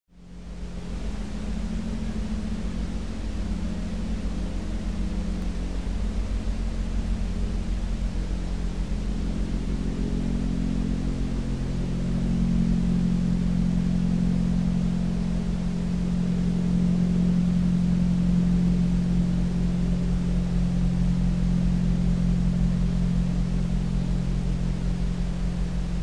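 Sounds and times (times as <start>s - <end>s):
low mechanical drone: 0.2s - 26.0s
low rumble: 0.4s - 26.0s.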